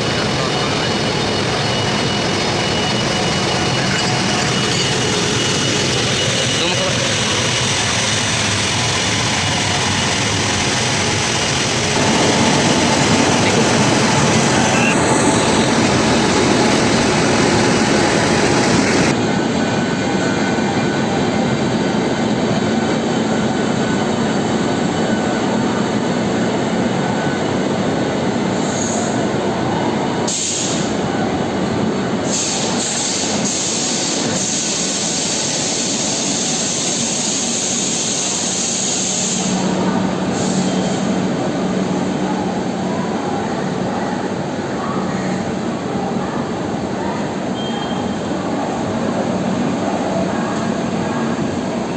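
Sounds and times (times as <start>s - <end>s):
train rumbling on rails: 0.0s - 51.9s.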